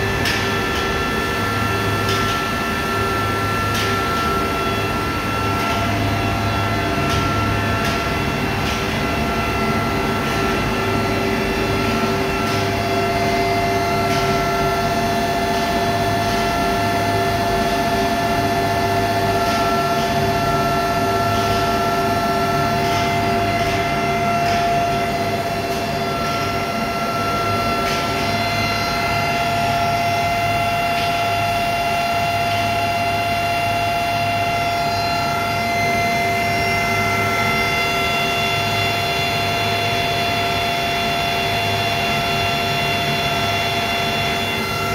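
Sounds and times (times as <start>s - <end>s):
machine whining tones: 0.0s - 44.9s
machinery drone: 0.0s - 44.9s.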